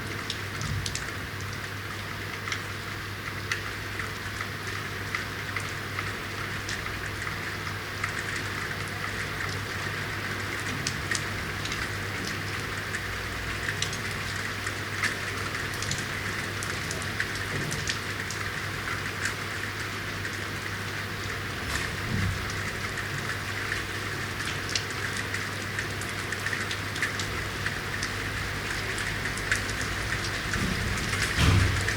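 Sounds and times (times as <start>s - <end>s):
rain falling: 0.0s - 31.9s.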